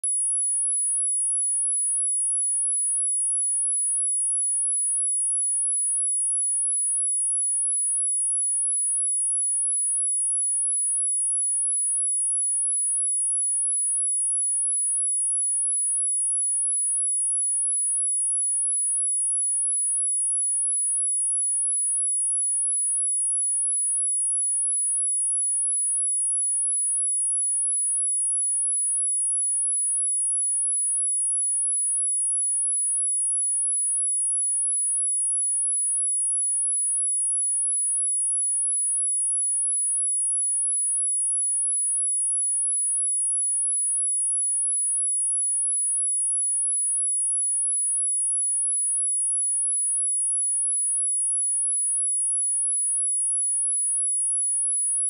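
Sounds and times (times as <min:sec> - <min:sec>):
high-pitched sine test tone: 0:00.0 - 0:55.0.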